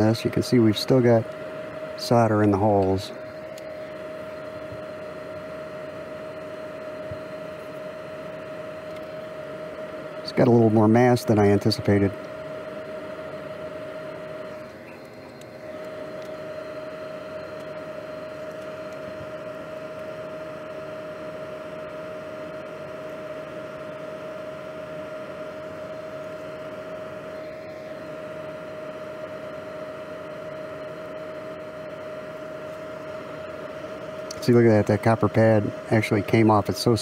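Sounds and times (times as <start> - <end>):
electric fan whirring: 0.0 - 37.0.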